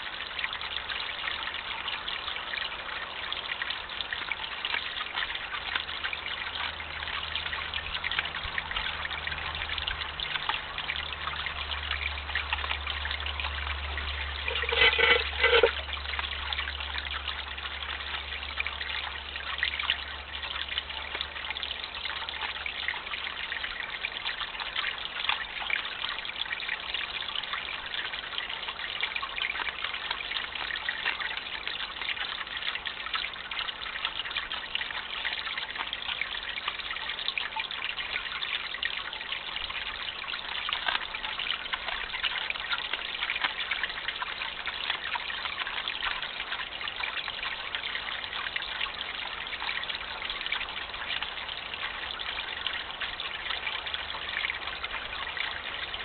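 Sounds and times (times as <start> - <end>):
fountain water trickling: 0.0 - 56.0.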